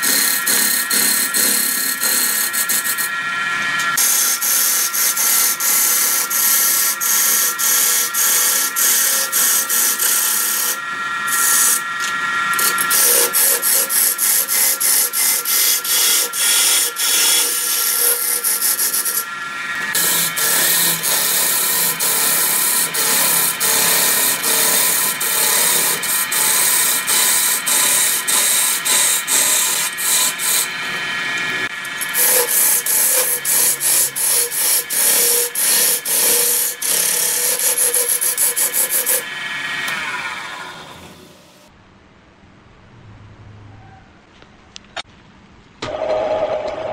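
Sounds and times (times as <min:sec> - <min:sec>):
wood lathe tool scraping: 0:00.0 - 0:41.7.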